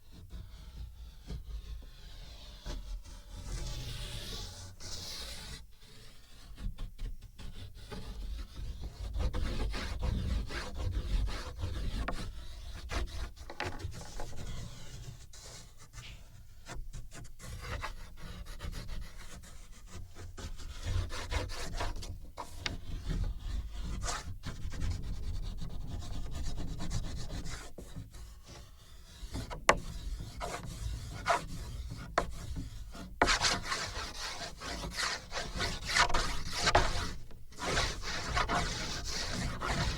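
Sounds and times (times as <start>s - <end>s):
strokes scraping a wooden board: 0.1s - 39.9s.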